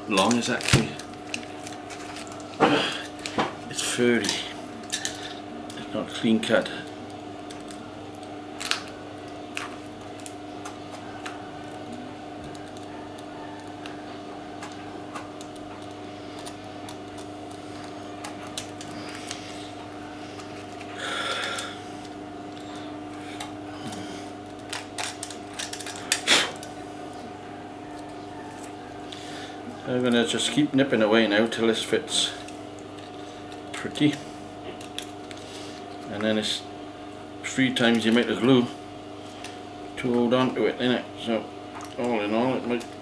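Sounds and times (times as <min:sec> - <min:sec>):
steady multi-tone hum: 0:00.0 - 0:43.0.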